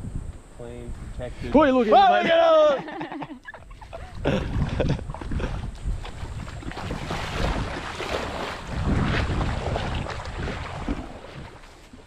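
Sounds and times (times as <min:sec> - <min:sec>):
wind buffeting microphone: 0:00.0 - 0:01.8, 0:03.6 - 0:11.6.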